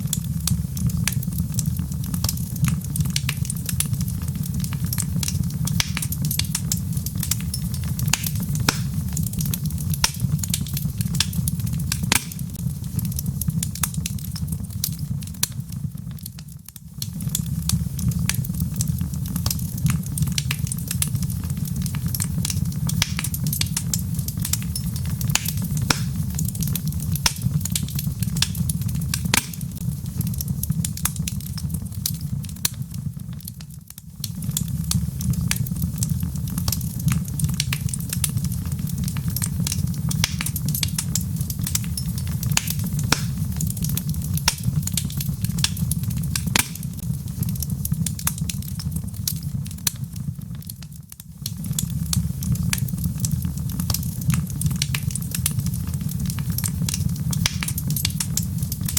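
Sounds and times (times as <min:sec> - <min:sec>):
log fire crackling and popping: 0:00.0 - 0:58.9
low rumble of flames: 0:00.0 - 0:58.9.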